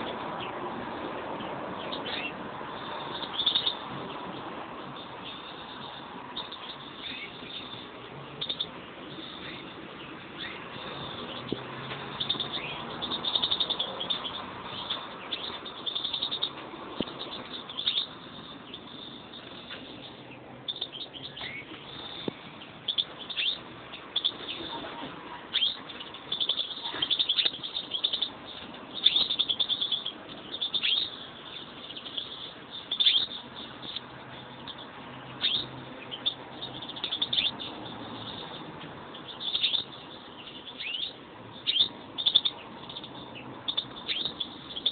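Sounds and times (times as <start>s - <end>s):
finches chirping and twittering: 0.0s - 44.9s.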